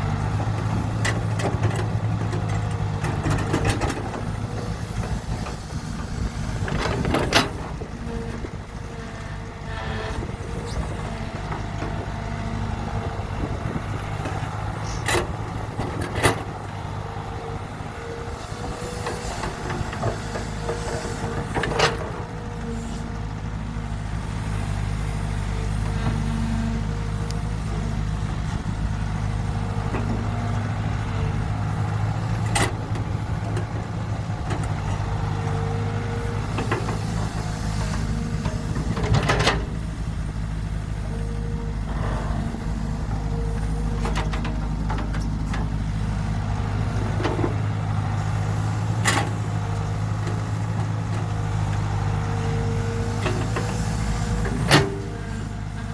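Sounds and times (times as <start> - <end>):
excavator diesel engine: 0.0 - 55.9.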